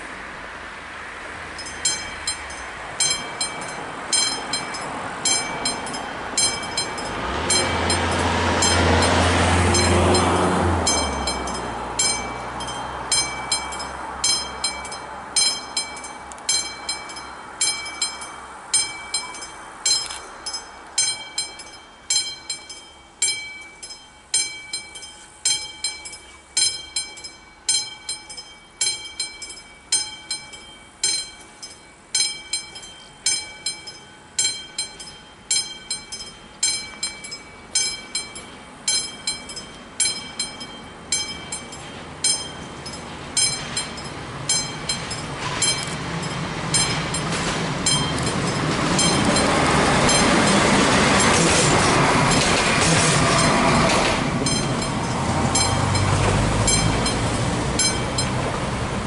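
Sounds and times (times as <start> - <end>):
level crossing warning bells: 1.5 - 59.0.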